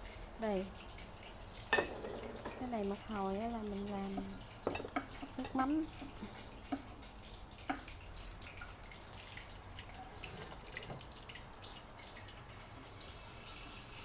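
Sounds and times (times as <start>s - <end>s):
water dripping: 0.0s - 14.0s.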